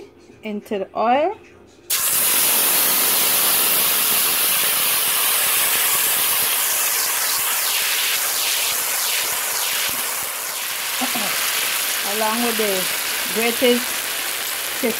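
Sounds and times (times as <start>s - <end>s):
curry paste sizzling in hot oil: 1.9s - 14.9s.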